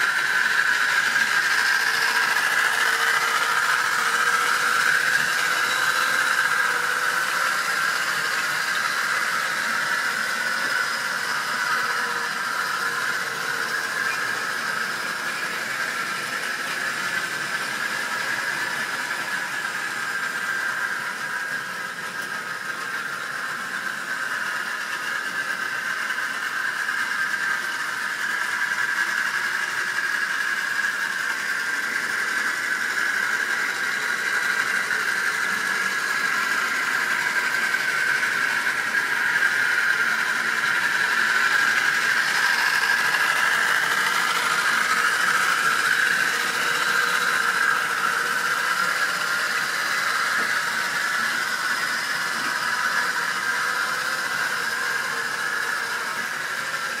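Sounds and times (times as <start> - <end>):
model train motor whine: 0.0 - 57.0.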